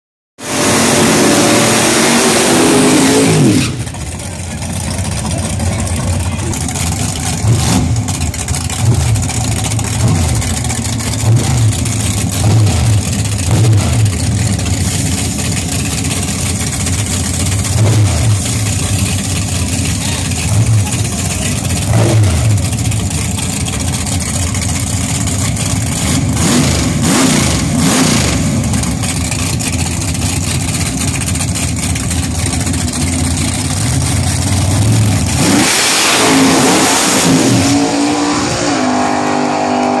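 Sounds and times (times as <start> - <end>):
drag car engine: 0.4 - 40.0.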